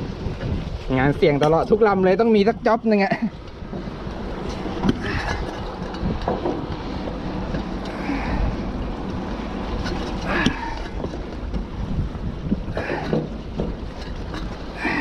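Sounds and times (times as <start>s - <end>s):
steady low rumble: 0.0s - 15.0s
wind buffeting microphone: 0.0s - 15.0s.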